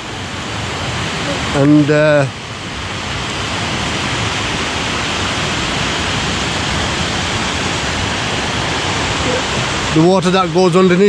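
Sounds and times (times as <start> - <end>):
small waterfall and stream rushing: 0.0 - 11.0.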